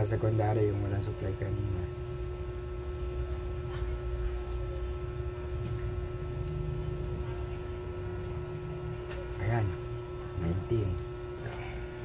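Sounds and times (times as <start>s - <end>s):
steady hum with constant tone: 0.0s - 12.0s.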